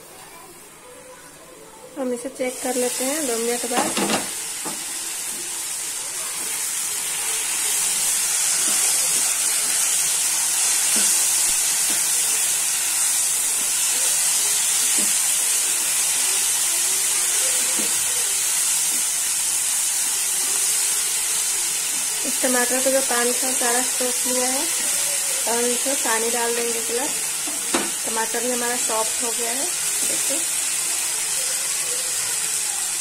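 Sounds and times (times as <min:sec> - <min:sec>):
vegetables sizzling in a pan: 0:00.0 - 0:33.0.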